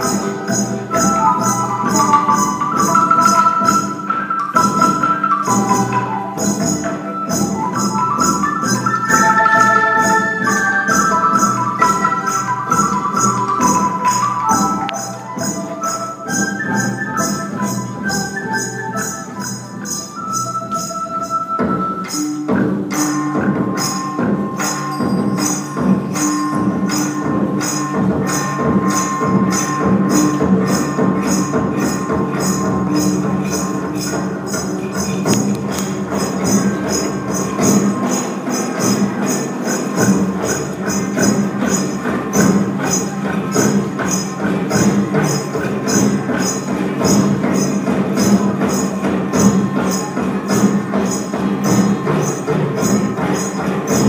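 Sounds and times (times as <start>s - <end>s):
fast percussion beat: 0.0s - 54.0s
held melody notes: 0.0s - 54.0s.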